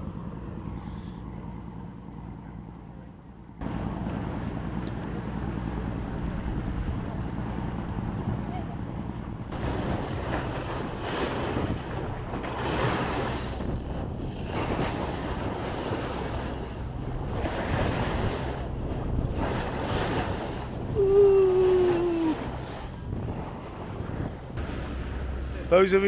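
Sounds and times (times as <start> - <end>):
boat engine hum: 0.0 - 26.0
water splashing along hull: 0.0 - 26.0
wind on microphone: 3.6 - 25.5.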